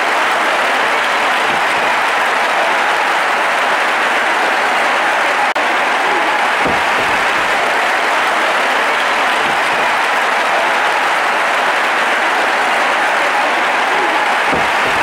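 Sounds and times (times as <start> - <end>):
arena crowd applauding: 0.0 - 15.0.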